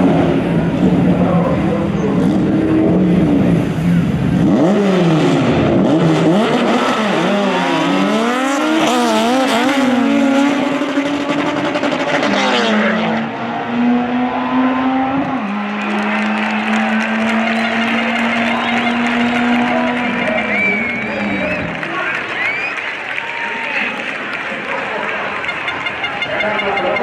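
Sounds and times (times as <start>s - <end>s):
car engine revving hard: 0.0s - 21.9s.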